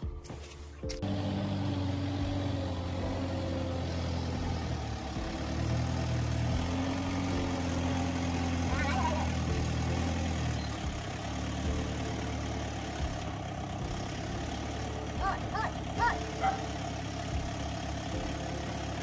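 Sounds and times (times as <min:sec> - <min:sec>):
motor humming: 0:01.0 - 0:19.0.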